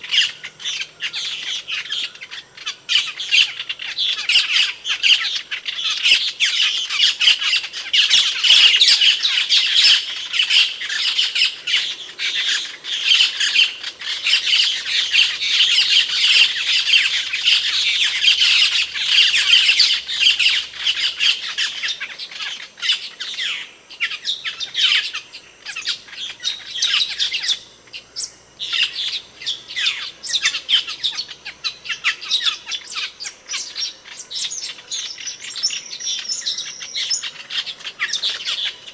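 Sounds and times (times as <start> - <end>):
starling calling with sharp notes: 0.0 - 38.9.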